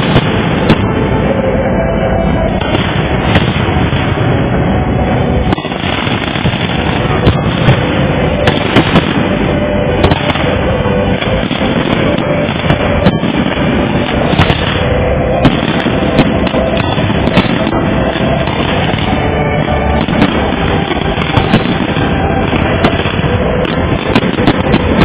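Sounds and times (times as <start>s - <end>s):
fireworks booming and crackling: 0.0s - 25.0s.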